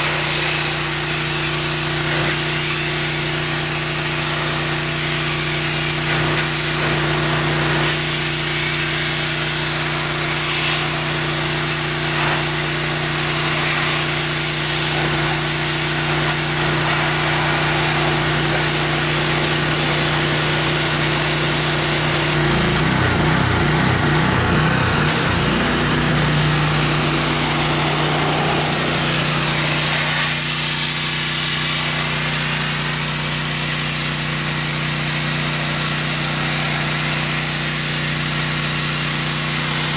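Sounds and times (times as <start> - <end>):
water jet spraying: 0.0 - 23.4, 24.0 - 39.9
pressure washer pump hum: 0.0 - 39.9.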